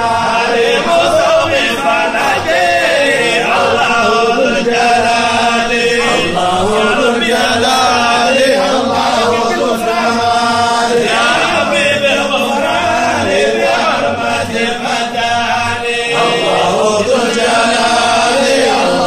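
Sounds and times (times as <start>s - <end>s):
men chanting in unison: 0.0s - 19.0s.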